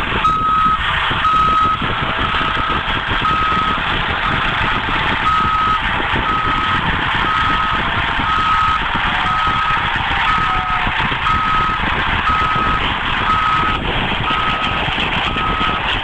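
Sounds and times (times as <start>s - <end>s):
machine engine running: 0.0s - 16.0s
backup alarm beeping: 0.2s - 15.8s.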